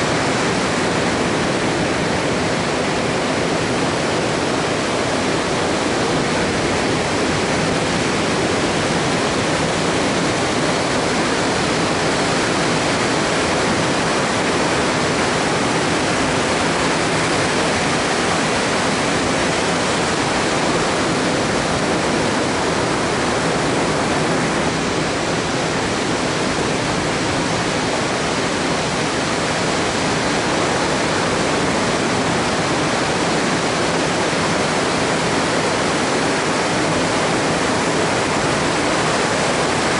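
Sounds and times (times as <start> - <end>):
ocean surf roaring: 0.0 - 39.9.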